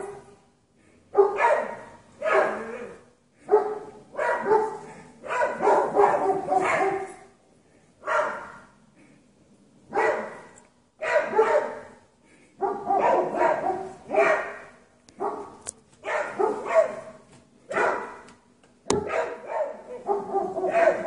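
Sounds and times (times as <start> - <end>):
dogs barking: 1.1 - 7.3, 8.0 - 8.8, 9.9 - 12.0, 12.6 - 18.3, 18.9 - 21.0.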